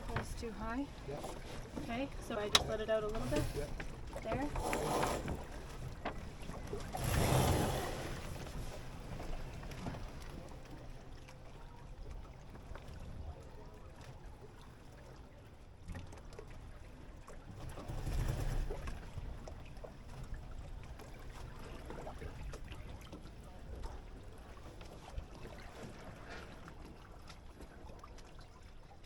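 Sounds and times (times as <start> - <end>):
water splashing along a hull: 0.0 - 29.0.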